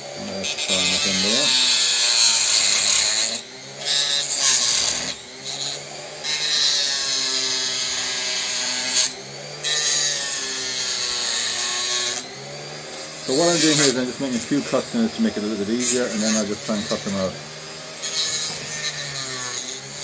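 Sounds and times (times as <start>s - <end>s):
rotary tool cutting plastic: 0.0s - 20.0s.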